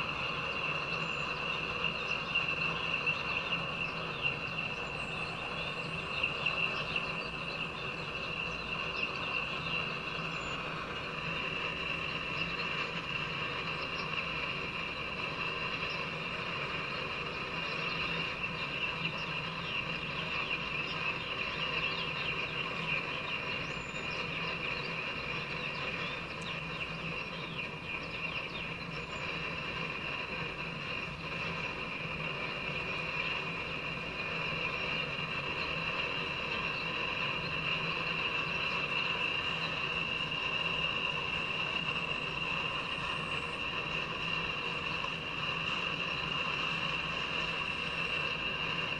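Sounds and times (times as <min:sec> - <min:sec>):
constant high whine: 0:00.0 - 0:48.9.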